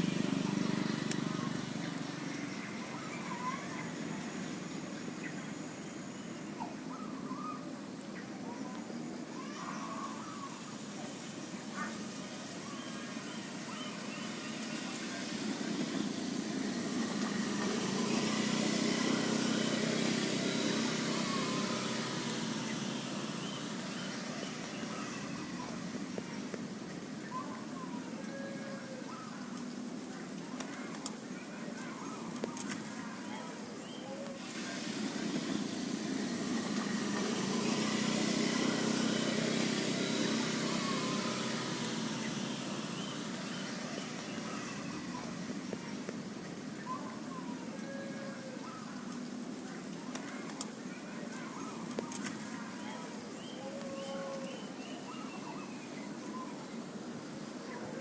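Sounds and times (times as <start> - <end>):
vehicle passing by: 0.0 - 6.6, 9.4 - 27.3, 31.4 - 58.0
road noise: 0.0 - 58.0.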